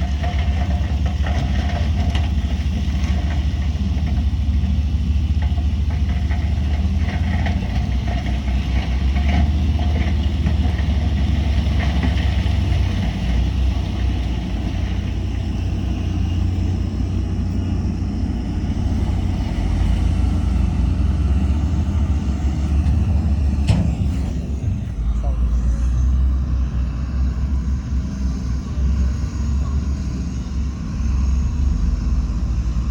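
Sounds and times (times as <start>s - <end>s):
heavy diesel engine rumbling: 0.0s - 32.9s.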